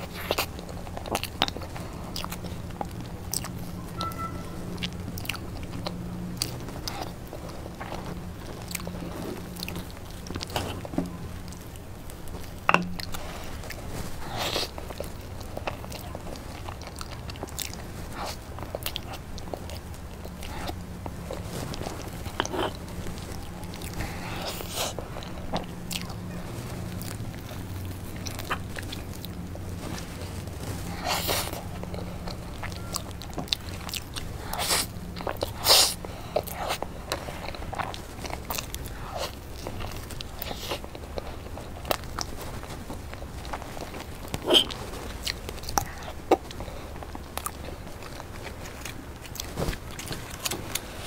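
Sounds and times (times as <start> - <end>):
low steady hum: 0.0 - 51.0
wet chewing: 0.0 - 51.0.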